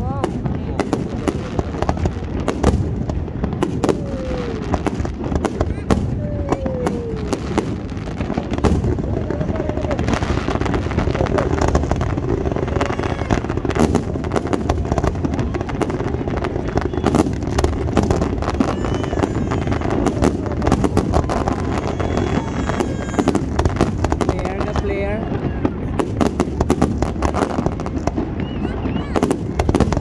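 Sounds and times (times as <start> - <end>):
crowd voices: 0.0 - 30.0
firework bangs and crackles: 0.0 - 30.0.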